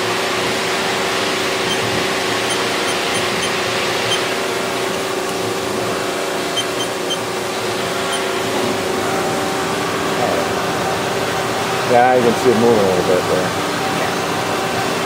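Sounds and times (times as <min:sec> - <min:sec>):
lathe mechanical hum: 0:00.0 - 0:15.0.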